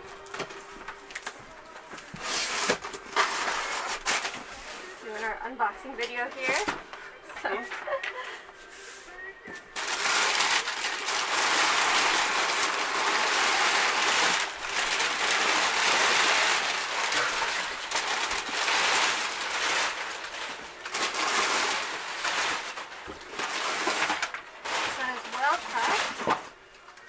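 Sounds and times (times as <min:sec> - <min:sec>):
paper crinkling and rustling: 0:00.0 - 0:27.0.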